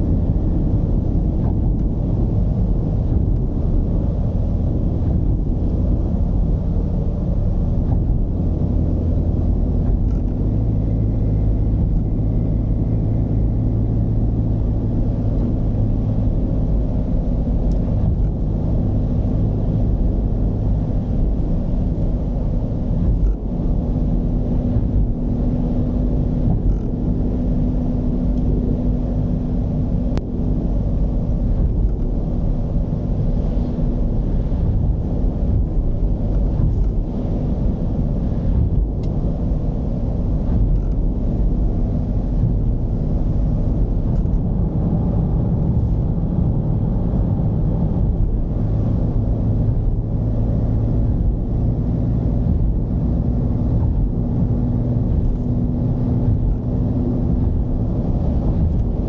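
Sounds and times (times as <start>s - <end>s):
road noise: 0.0s - 59.0s
van engine rumble: 0.0s - 59.0s.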